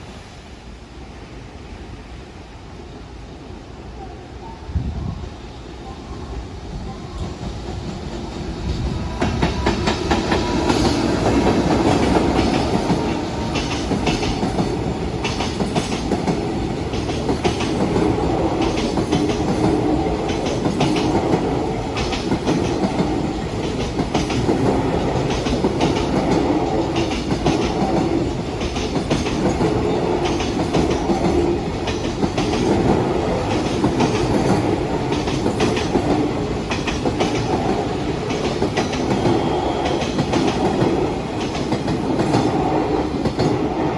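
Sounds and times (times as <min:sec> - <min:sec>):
freight train passing: 0:00.0 - 0:43.9
wheels clacking over rail joints: 0:07.2 - 0:43.9.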